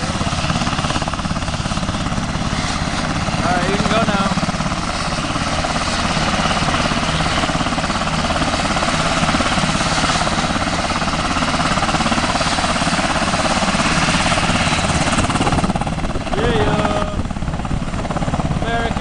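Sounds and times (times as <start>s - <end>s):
helicopter engines running: 0.0s - 19.0s.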